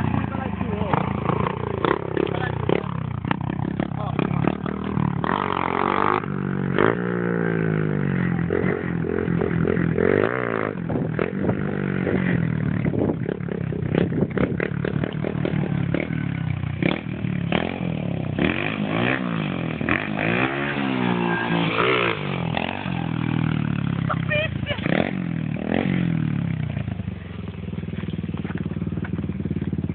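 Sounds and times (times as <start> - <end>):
pit bike engine revving: 0.0 - 29.9.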